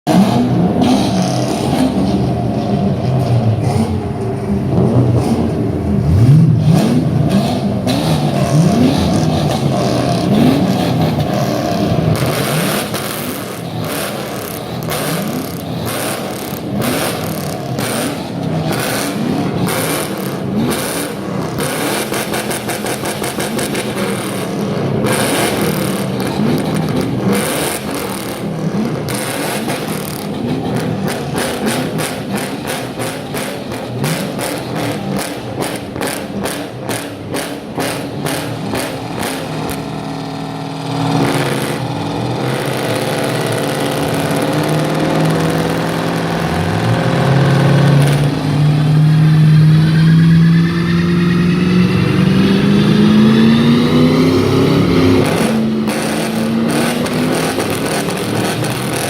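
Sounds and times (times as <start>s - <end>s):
engines revving with throttle blips: 0.0s - 59.0s.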